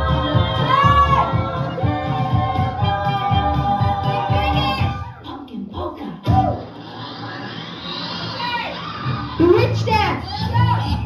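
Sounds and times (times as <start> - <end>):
dance music with steady beat: 0.0 - 11.0.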